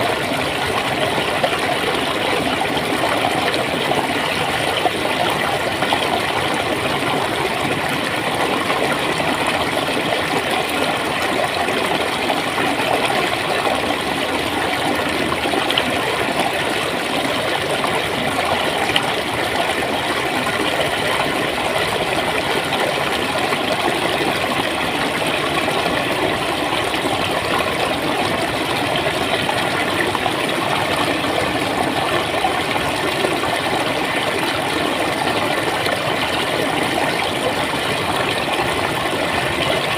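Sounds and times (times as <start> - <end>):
flowing water gurgling: 0.0 - 39.9.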